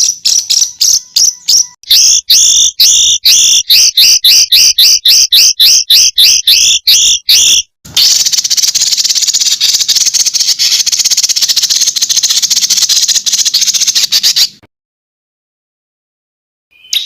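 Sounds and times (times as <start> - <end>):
songbird rattling trill: 0.0 - 14.6.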